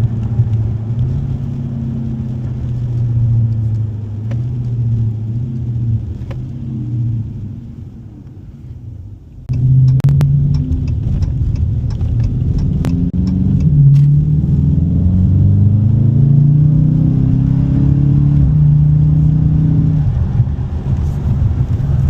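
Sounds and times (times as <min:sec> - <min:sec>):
car engine accelerating hard: 0:00.0 - 0:08.5, 0:09.5 - 0:22.0.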